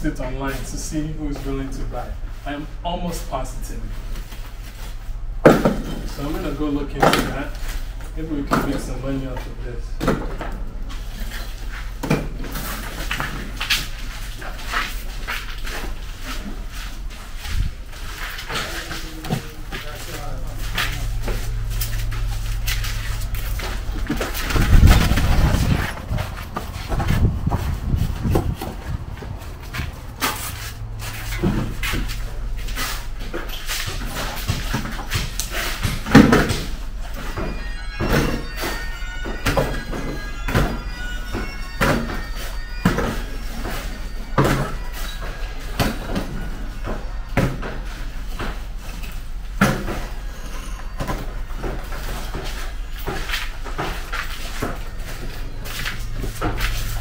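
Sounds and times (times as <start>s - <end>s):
knocks and footsteps: 0.1s - 57.0s.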